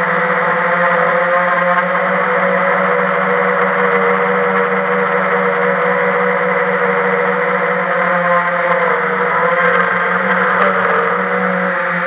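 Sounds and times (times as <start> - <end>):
quadcopter motors whirring: 0.0 - 12.0.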